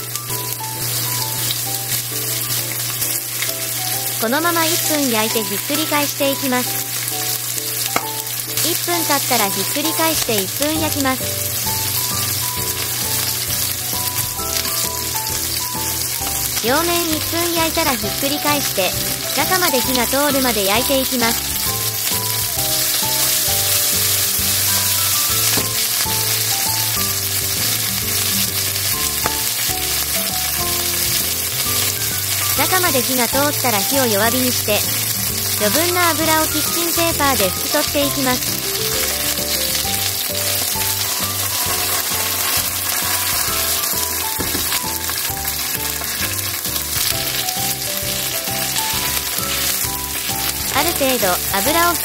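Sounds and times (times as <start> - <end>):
bouncy background music: 0.0 - 52.0
chicken sizzling in hot oil: 0.0 - 52.0.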